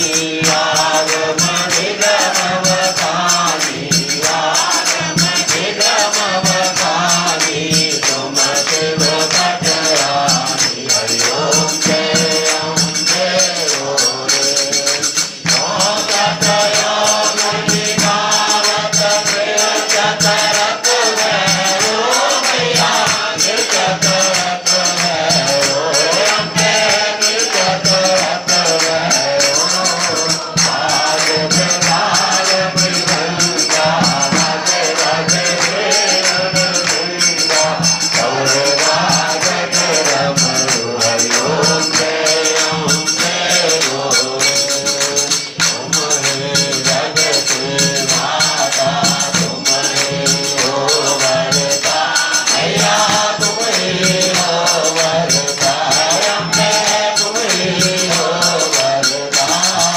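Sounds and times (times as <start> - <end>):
hymn sung into a microphone: 0.0 - 59.9
metallic jingling percussion: 0.0 - 59.9.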